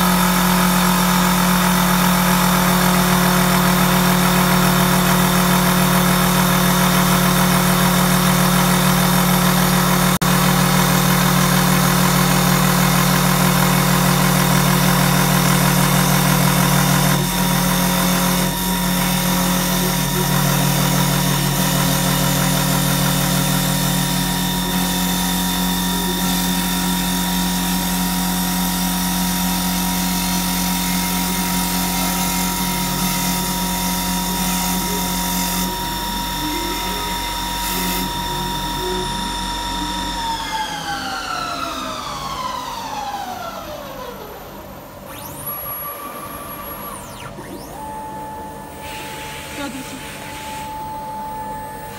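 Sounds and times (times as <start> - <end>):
lathe machine hum: 0.0 - 51.9.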